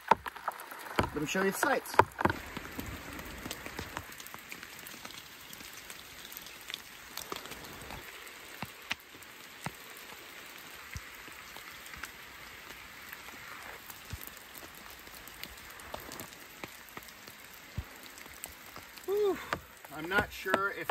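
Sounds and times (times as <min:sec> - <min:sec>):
drops ticking on tarp: 0:00.0 - 0:20.9
rain falling on a tarp: 0:00.0 - 0:20.9.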